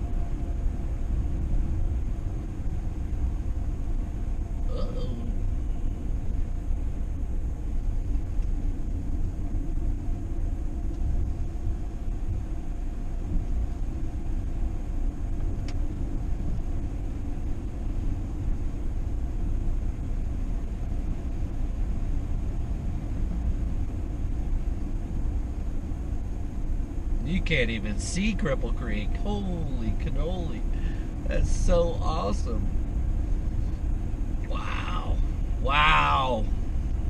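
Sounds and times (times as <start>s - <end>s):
vehicle rumble from inside cabin: 0.0s - 37.0s.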